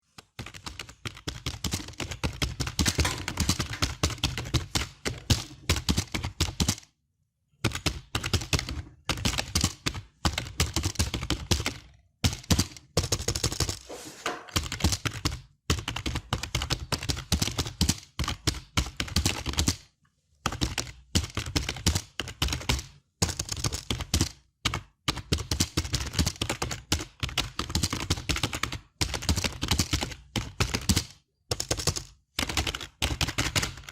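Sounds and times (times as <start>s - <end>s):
computer keyboard typing: 0.1s - 6.9s, 7.6s - 13.8s, 14.5s - 33.9s.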